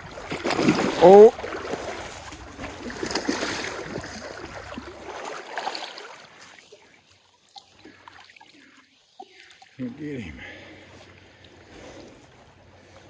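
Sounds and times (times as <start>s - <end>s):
stream water splashing: 0.0s - 13.0s.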